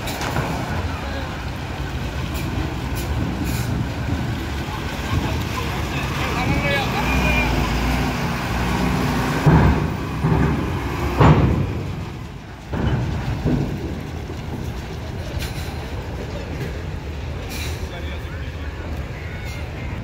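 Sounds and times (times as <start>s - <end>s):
wheels clanking on steel ramp: 0.0s - 7.2s, 8.0s - 20.0s
truck engine rumble: 0.0s - 20.0s.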